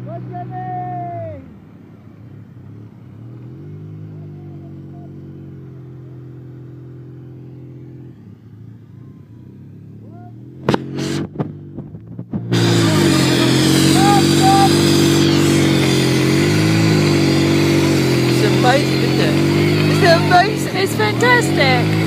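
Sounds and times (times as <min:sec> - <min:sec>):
snowmobile engine running: 0:03.1 - 0:22.0.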